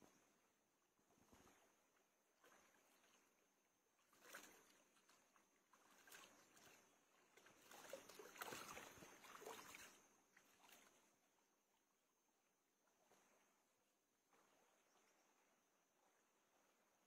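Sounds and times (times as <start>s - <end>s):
water splashing and trickling: 1.0s - 17.0s.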